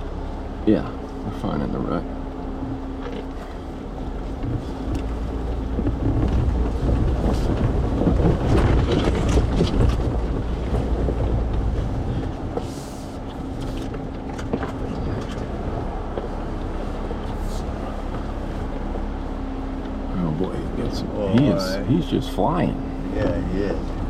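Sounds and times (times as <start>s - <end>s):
engine and drivetrain rumble: 0.0s - 24.0s
suspension rattling and knocking: 2.6s - 24.0s.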